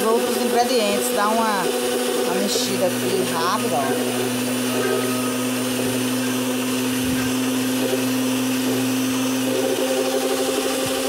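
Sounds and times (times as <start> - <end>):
stand mixer whisking eggs: 0.0 - 11.0.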